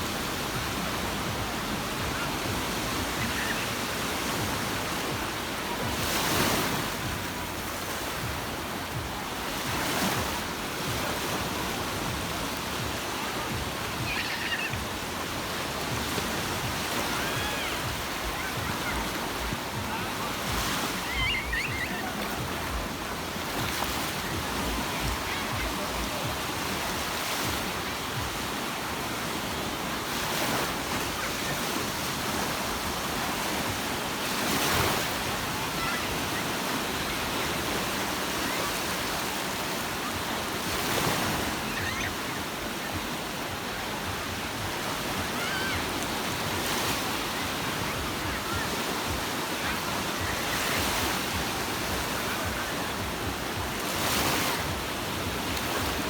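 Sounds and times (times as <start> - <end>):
sea surf washing on beach: 0.0 - 56.0
waves breaking: 0.0 - 56.0.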